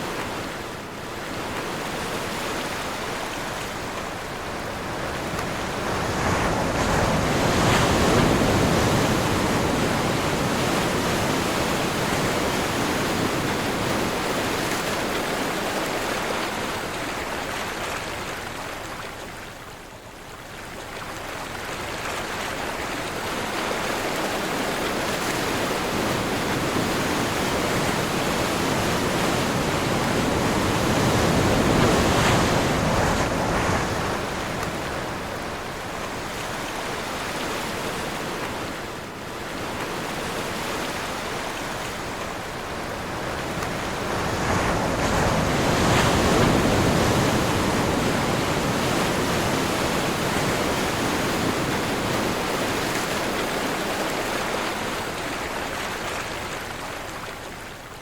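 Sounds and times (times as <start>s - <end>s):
sea waves breaking: 0.0s - 19.6s, 20.8s - 58.0s
wind: 0.0s - 58.0s.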